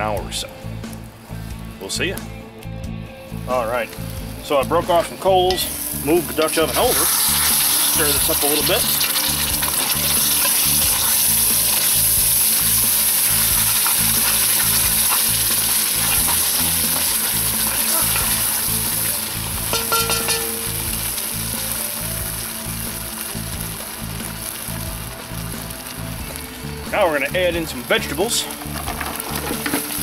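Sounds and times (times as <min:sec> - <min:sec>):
stew boiling and sizzling: 0:00.0 - 0:30.0.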